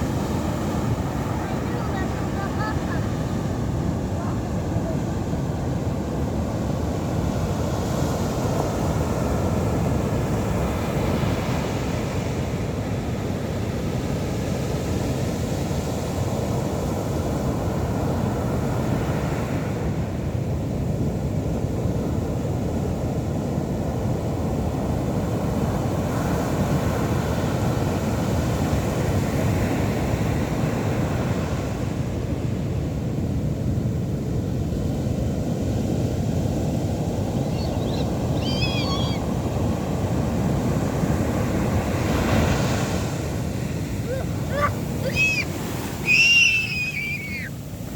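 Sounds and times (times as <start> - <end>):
ocean waves breaking on beach: 0.0 - 47.9.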